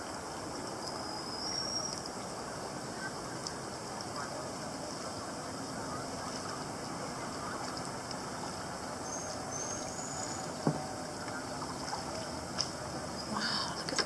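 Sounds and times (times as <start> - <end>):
boat rushing noise: 0.0 - 14.0.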